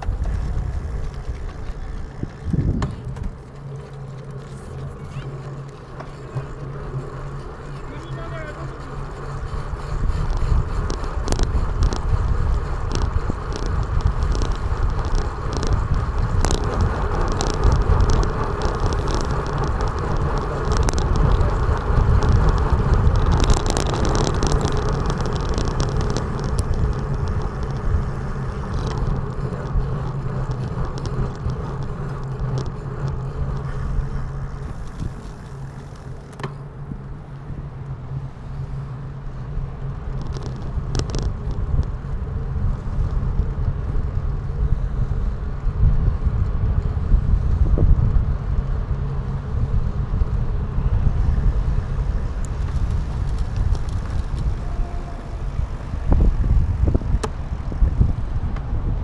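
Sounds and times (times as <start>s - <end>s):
scattered clicks: 0.0s - 44.7s, 49.6s - 58.7s
wind and road noise: 0.0s - 59.0s.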